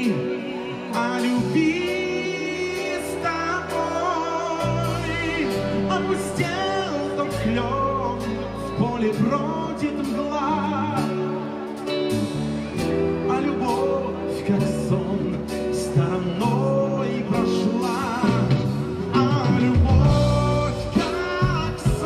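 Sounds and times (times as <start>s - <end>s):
bass guitar: 0.0s - 22.0s
drums: 0.0s - 22.0s
electric guitar: 0.0s - 22.0s
person singing: 0.0s - 22.0s.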